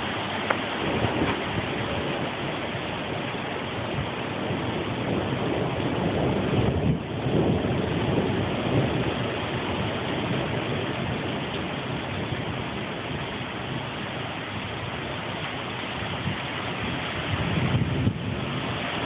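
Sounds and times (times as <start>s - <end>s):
storm wind gusting through trees: 0.0s - 19.0s
wind buffeting microphone: 0.0s - 19.0s.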